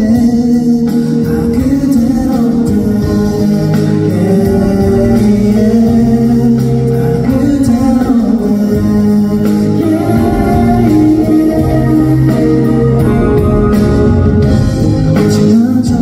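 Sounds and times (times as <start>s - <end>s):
guitar: 0.0s - 16.0s
keyboard: 0.0s - 16.0s
man singing: 0.0s - 16.0s.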